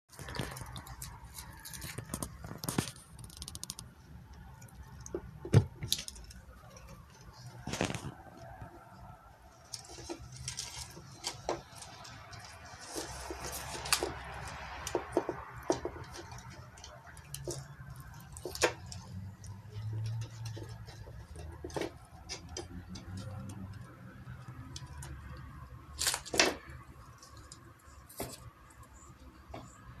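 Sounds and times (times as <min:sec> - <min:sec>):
cats chewing bark: 0:00.1 - 0:08.8, 0:09.5 - 0:30.0.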